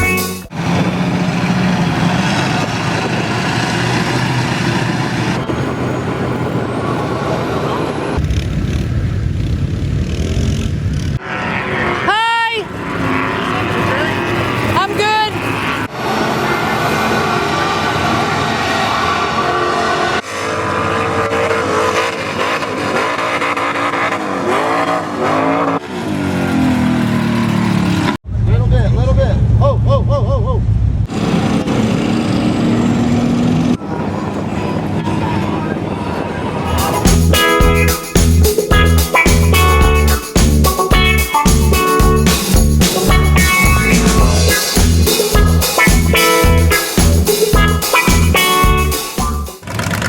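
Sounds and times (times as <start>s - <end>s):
truck engines running hard: 0.0s - 50.0s.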